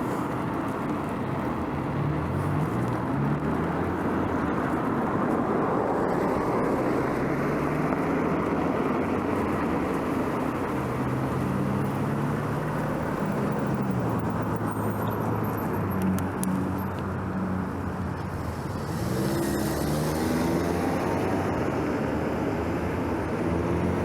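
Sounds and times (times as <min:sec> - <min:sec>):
motor vehicles passing: 0:00.0 - 0:24.0.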